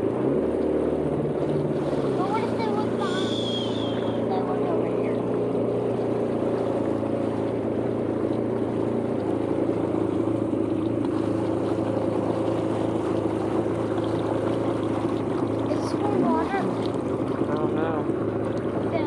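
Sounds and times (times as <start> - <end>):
jet ski engine running: 0.0 - 19.0
water rushing along hull: 0.0 - 19.0.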